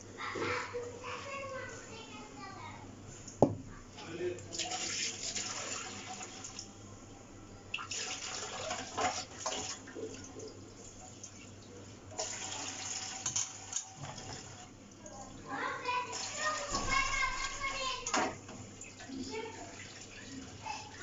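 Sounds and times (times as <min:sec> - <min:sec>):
running water: 0:03.2 - 0:06.8, 0:07.7 - 0:21.0.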